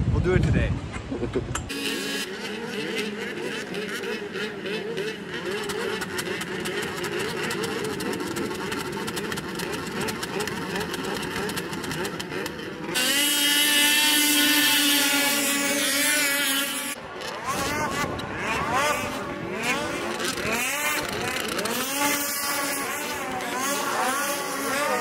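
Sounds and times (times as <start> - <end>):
snowmobile engines running: 1.6 - 25.0
snowmobile engine at high revs: 1.7 - 25.0.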